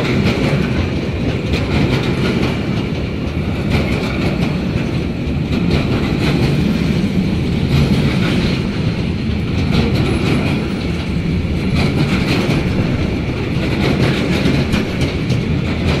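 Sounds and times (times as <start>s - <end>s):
train passing with rumble: 0.0s - 16.0s
wheels clicking over rail joints: 0.0s - 16.0s.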